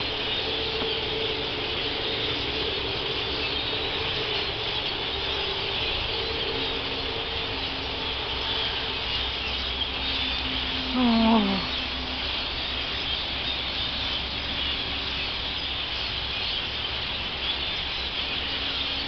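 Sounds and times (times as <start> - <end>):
flock of blackbirds calling: 0.0 - 19.0.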